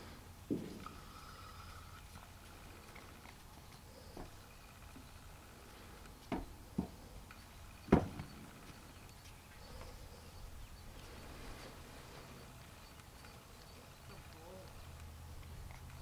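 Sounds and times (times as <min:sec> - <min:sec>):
faint insect hum: 0:00.1 - 0:16.0
hooves knocking wooden poles: 0:00.4 - 0:16.0.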